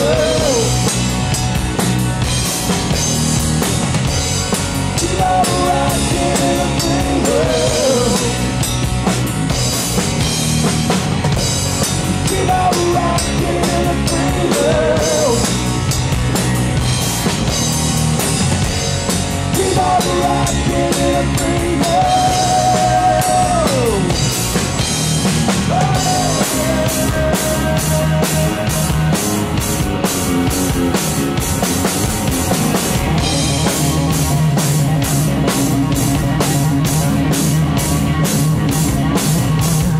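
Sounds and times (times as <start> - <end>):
drums keeping rock beat: 0.0 - 39.9
rock band playing: 0.0 - 39.9.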